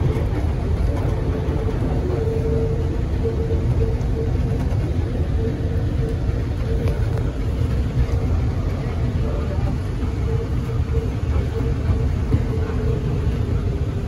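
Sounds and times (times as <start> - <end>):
faint whine: 0.0 - 14.0
people mover rumbling: 0.0 - 14.0.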